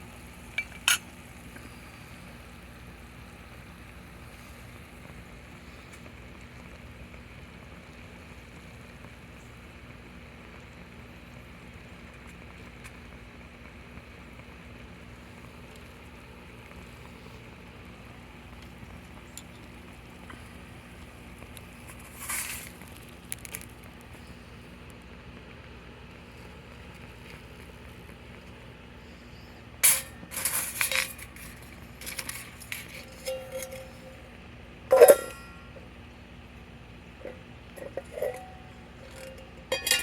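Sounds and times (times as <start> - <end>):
rustle: 0.0 - 40.0
water boiling in a pot: 0.0 - 40.0.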